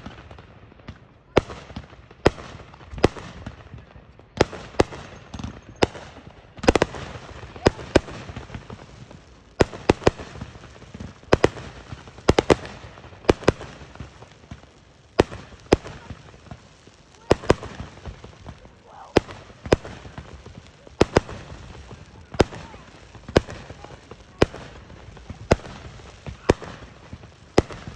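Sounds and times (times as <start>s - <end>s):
fireworks bangs: 0.0s - 27.9s.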